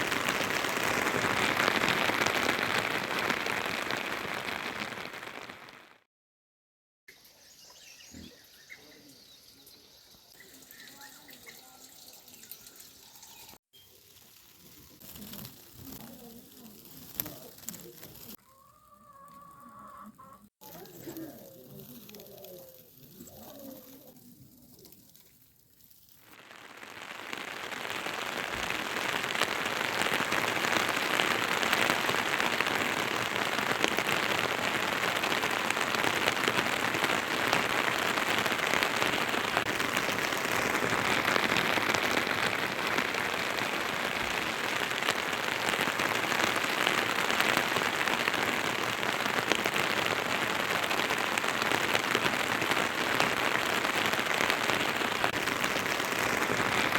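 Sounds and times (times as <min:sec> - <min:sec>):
steady rain hiss: 0:00.0 - 0:06.0, 0:09.8 - 0:18.4, 0:20.7 - 0:56.9.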